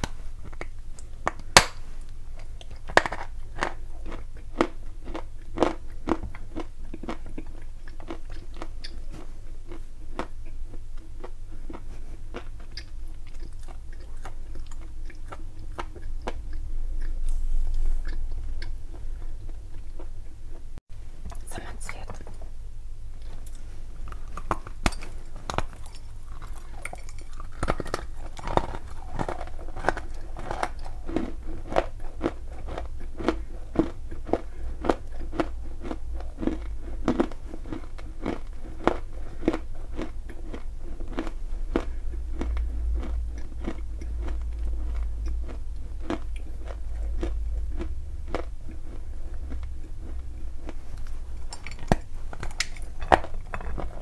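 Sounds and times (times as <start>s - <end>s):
low hum: 0.0s - 54.0s
brittle crunching chewing: 2.4s - 20.6s, 23.2s - 54.0s.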